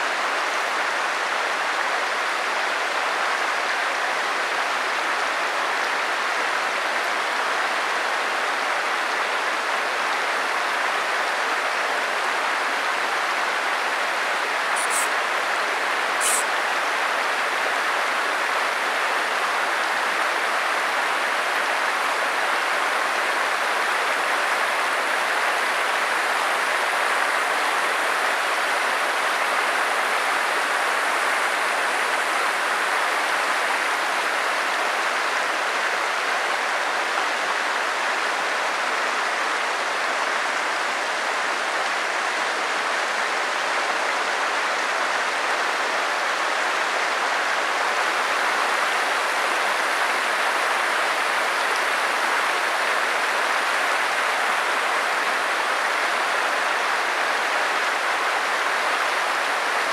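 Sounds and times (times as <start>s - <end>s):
stream water flowing over rocks: 0.0s - 59.9s.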